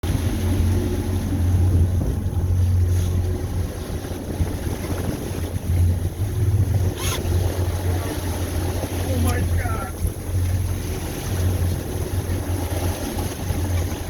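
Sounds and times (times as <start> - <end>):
boat engine humming: 0.0 - 14.0
water noise: 0.0 - 14.0
wind on microphone: 0.0 - 14.0.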